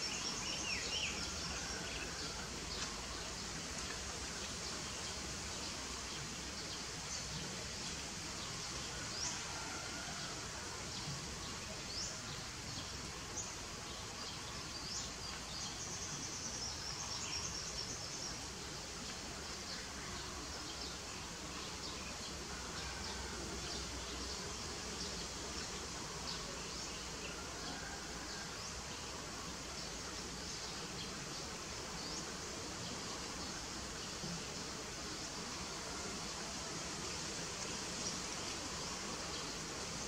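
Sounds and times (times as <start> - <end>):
outdoor background noise: 0.0 - 40.0.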